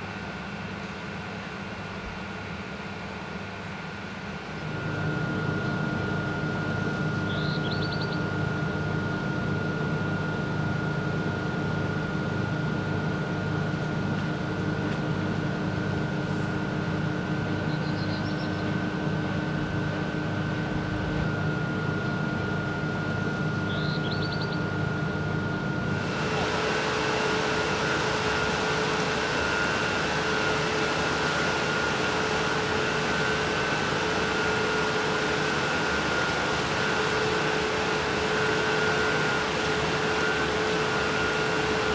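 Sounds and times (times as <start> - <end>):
electrical machinery hum: 0.0 - 41.9
machine tone: 4.4 - 41.9.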